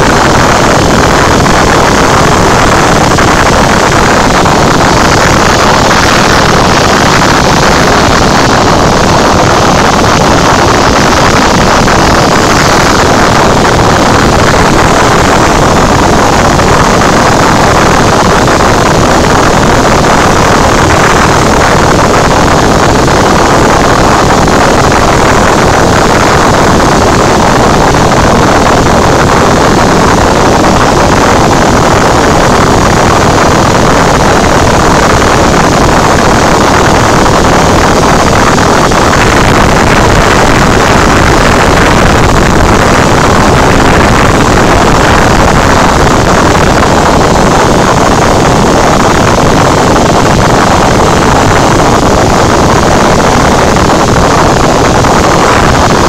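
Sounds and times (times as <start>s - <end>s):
airflow noise: 0.0s - 56.0s
airplane engine drone in cabin: 0.0s - 56.0s.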